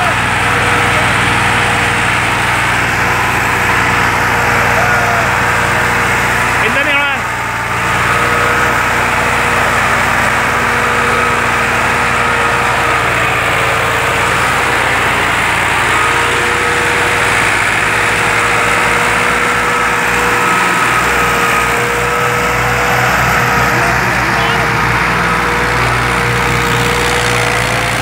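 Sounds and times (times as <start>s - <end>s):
steady whine: 0.0s - 28.0s
tractor diesel engine running: 0.0s - 28.0s.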